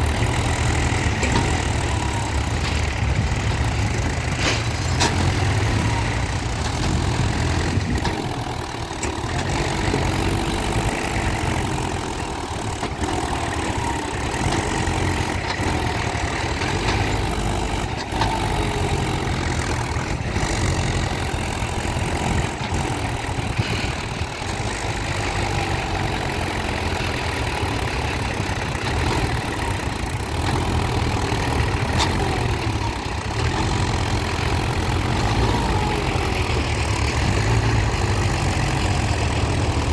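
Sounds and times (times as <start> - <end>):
tractor diesel engine rumbling: 0.0 - 39.9.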